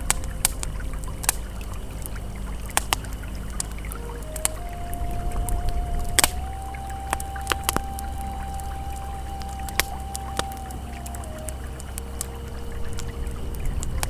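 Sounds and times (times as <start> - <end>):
campfire crackling and popping: 0.0 - 14.0
river flowing: 0.0 - 14.0
soft ambient music tone: 0.0 - 14.0.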